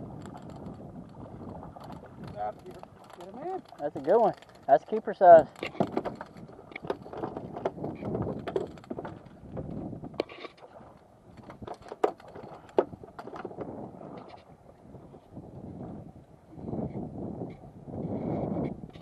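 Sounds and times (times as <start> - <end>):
small waves slapping a boat hull: 0.0 - 19.0
wind on microphone: 0.0 - 19.0.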